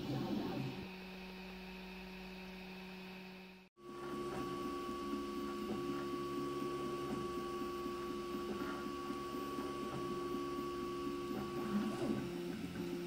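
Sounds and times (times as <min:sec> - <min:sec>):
steady printer hum: 0:00.0 - 0:13.0.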